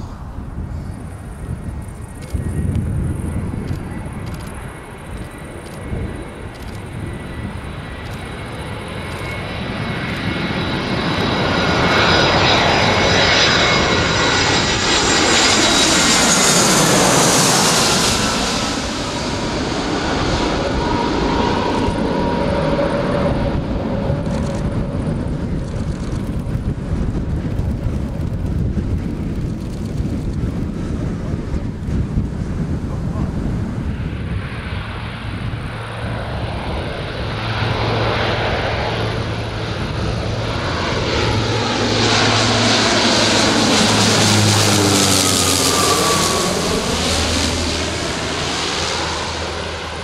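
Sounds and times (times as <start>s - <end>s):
jet airliner passing overhead: 0.0s - 50.0s
wind rumble on microphone: 0.0s - 50.0s.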